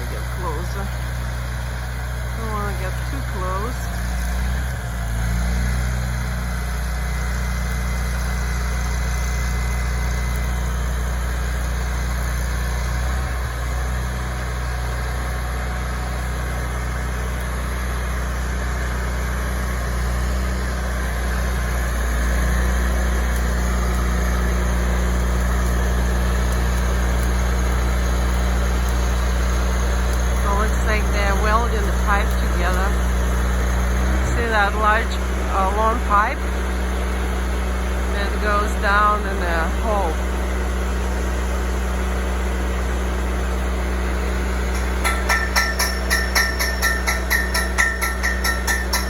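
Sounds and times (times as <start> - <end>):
drilling engine humming: 0.0 - 49.0.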